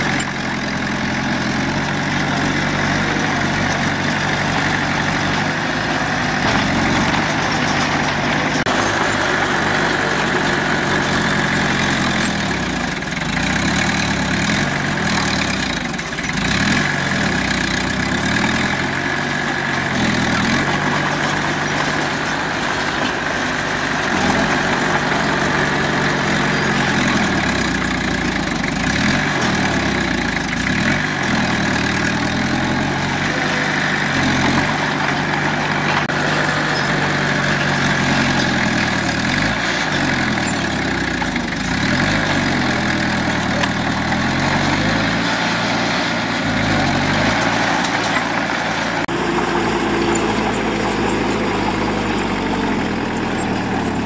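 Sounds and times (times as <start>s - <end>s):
diesel engine working: 0.0s - 54.0s.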